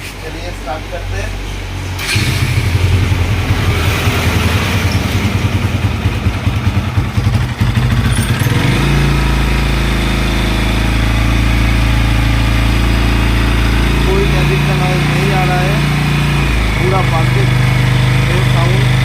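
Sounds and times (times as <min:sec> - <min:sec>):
motorcycle engine idling: 0:02.2 - 0:19.0.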